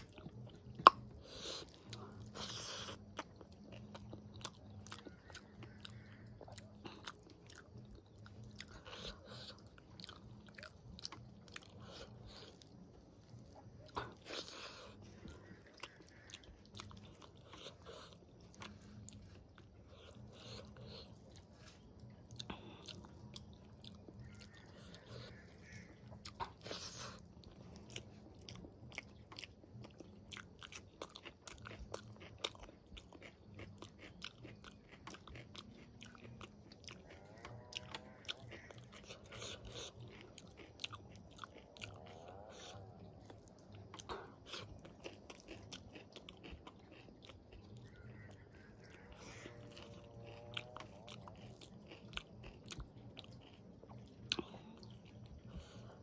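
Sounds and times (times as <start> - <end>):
close chewing and mouth sounds: 0.0 - 56.0.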